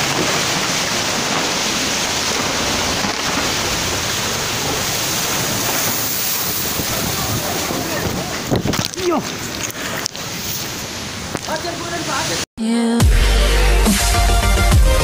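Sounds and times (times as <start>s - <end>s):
heavy rain: 0.0s - 12.5s
mud and water flowing: 0.0s - 12.5s.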